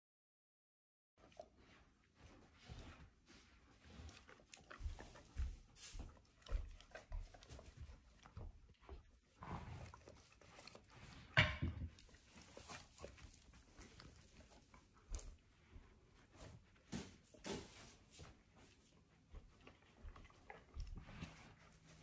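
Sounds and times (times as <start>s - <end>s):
dogs licking and snuffling: 1.2s - 22.0s.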